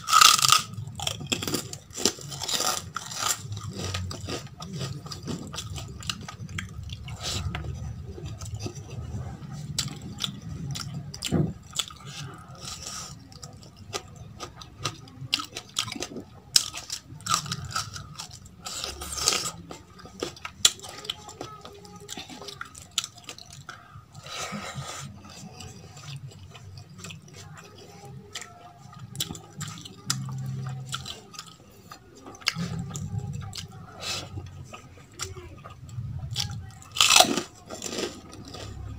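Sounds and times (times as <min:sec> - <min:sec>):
chewing and crunchy bites: 0:00.0 - 0:38.9.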